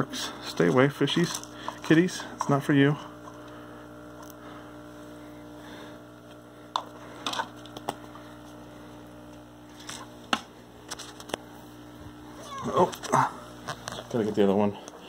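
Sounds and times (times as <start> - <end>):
aquarium equipment hum: 0.0 - 15.0.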